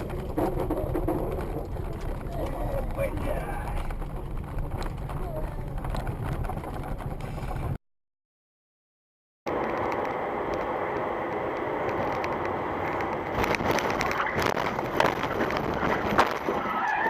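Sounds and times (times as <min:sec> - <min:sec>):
car driving road noise: 0:00.0 - 0:07.8, 0:09.5 - 0:17.0.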